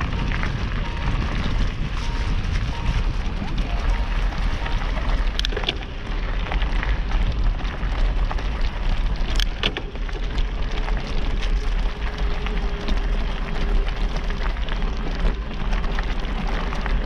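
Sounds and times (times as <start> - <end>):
tyres crunching over gravel: 0.0 - 17.0
wind rumble on microphone: 0.0 - 17.0.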